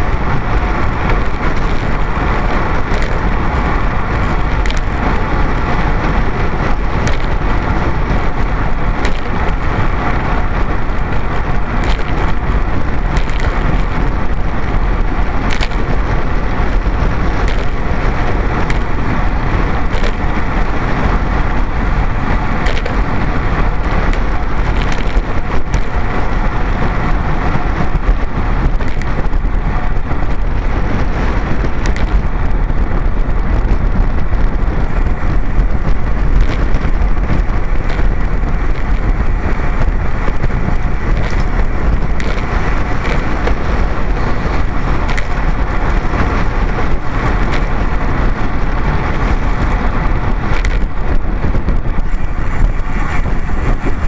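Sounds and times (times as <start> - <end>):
crackles: 0.0 - 54.0
road and tyre rumble: 0.0 - 54.0
wind buffeting microphone: 0.0 - 54.0.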